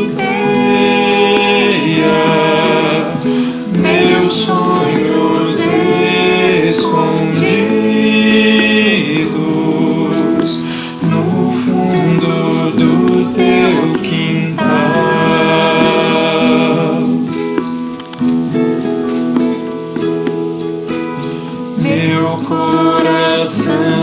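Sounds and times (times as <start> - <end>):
choir singing long held notes: 0.0 - 24.0
instrumental accompaniment: 0.0 - 24.0.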